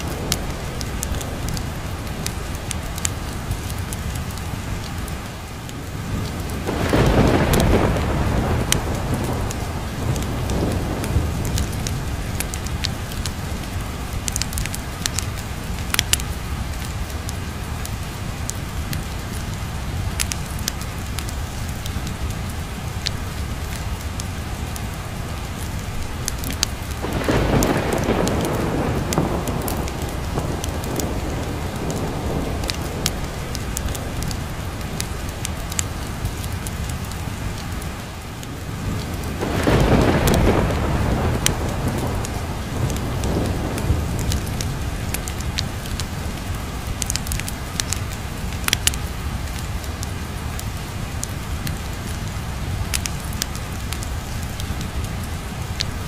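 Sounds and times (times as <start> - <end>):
heavy rain: 0.0 - 56.0
sharp ticks and crackles: 0.0 - 56.0
thunder rumbling: 0.0 - 56.0.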